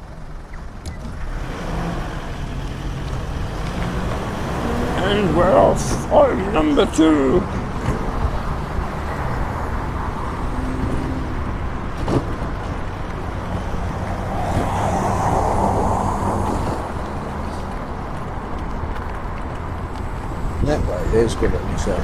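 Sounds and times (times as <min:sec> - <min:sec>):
wind and road rumble: 0:00.0 - 0:22.0.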